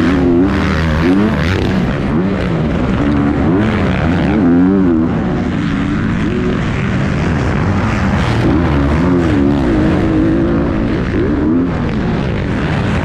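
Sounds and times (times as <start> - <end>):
dirt bike engine revving: 0.0 - 13.0
other dirt bikes running: 0.0 - 13.0.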